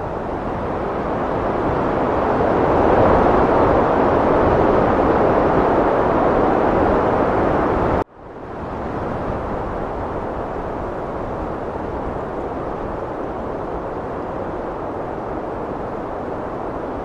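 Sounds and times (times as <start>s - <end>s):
heavy wind blowing: 0.0s - 17.0s.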